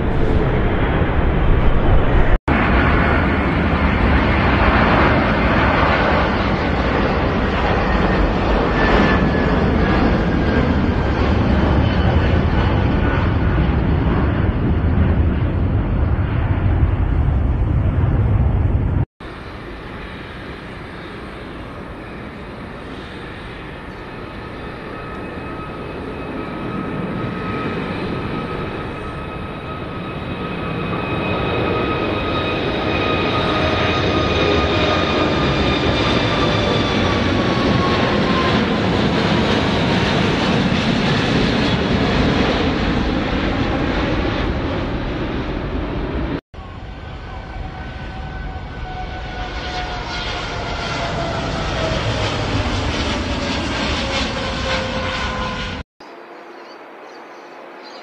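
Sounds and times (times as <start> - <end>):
deep airliner rumble: 0.0 - 55.9
jet roar with high whine: 0.0 - 58.0.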